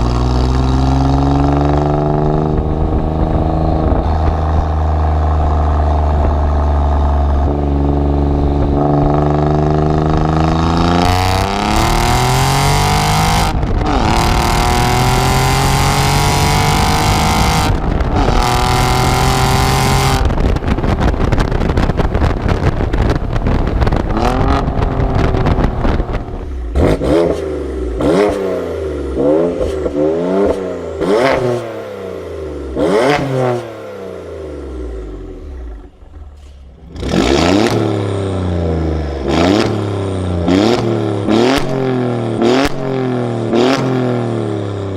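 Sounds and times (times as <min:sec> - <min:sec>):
engine revving: 0:00.0 - 0:44.9
sports car engine accelerating: 0:00.0 - 0:44.9.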